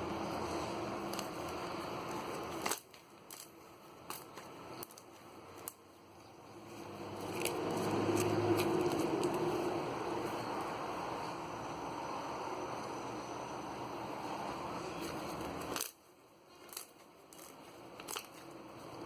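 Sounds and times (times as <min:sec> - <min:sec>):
background hiss and hum: 0:00.0 - 0:19.0.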